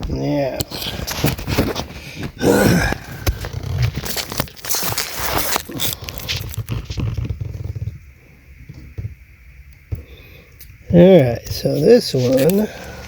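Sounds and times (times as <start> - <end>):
wires crinkling and clicking: 0.0 - 9.1, 10.5 - 13.0.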